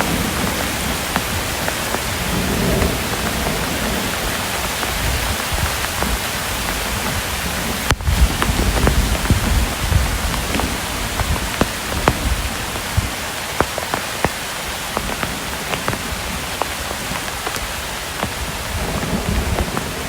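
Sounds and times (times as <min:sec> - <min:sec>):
distant thunder rumble: 0:00.0 - 0:20.0
steady rain: 0:00.0 - 0:20.0.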